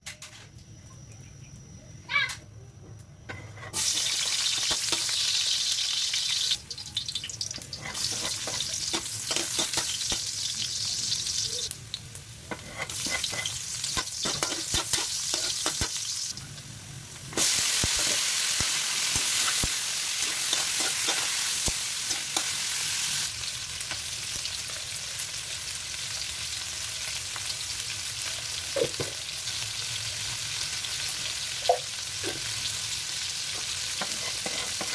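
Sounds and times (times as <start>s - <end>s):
meat sizzling in hot oil: 3.7s - 34.9s.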